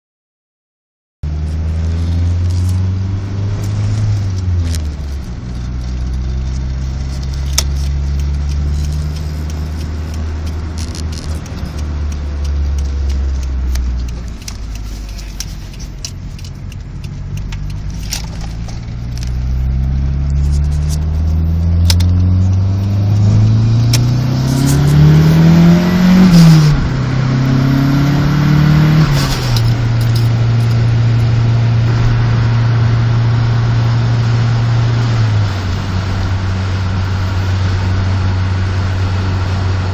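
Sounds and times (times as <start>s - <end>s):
car engine idling and revving: 1.2s - 39.9s.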